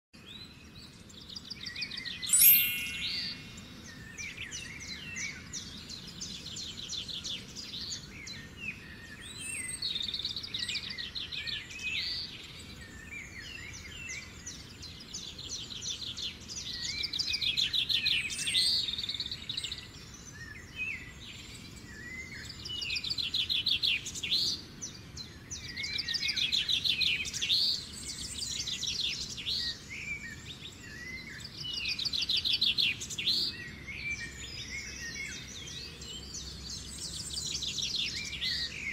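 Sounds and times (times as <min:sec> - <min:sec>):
birds chirping and singing: 0:00.2 - 0:38.9
faint steady background noise: 0:00.2 - 0:38.9.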